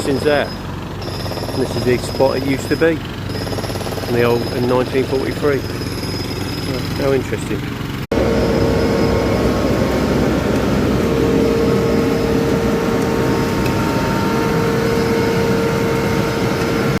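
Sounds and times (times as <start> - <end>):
machine running with whine: 0.0 - 17.0.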